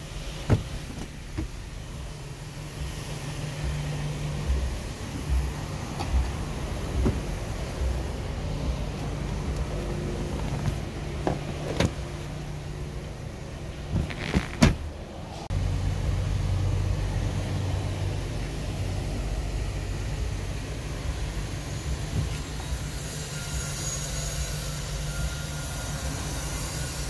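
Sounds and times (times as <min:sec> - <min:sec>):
car idling: 0:00.0 - 0:22.8.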